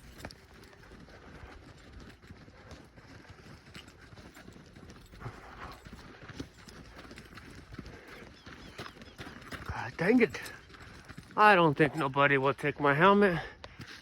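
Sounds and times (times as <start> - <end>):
footsteps running on dirt trail: 0.0 - 14.0.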